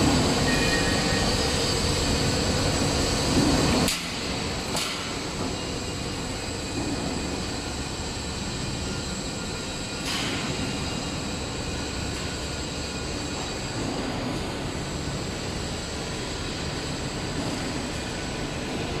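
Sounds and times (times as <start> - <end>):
roll forming machine running: 0.0 - 19.0.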